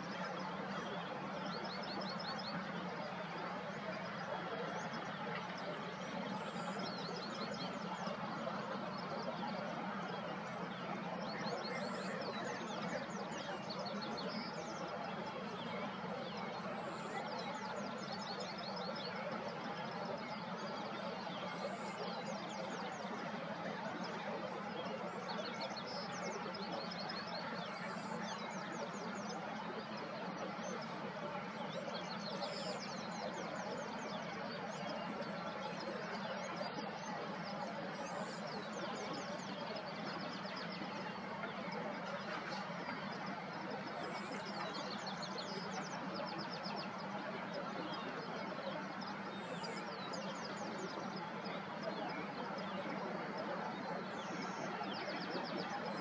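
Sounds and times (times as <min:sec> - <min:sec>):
outdoor ambience rush: 0:00.0 - 0:56.0.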